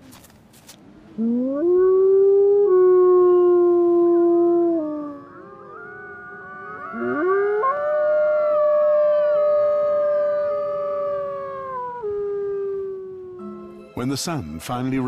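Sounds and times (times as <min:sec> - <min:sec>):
wolves howling: 0:01.2 - 0:13.7.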